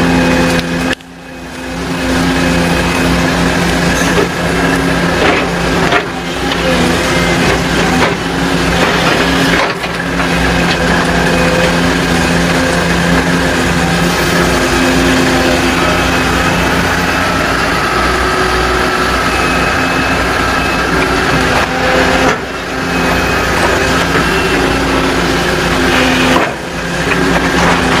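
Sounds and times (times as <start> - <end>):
excavator diesel engine working: 0.0 - 28.0.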